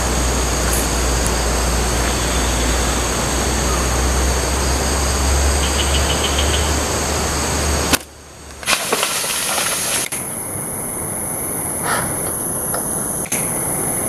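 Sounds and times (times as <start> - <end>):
outdoor low rumble: 0.0 - 14.0.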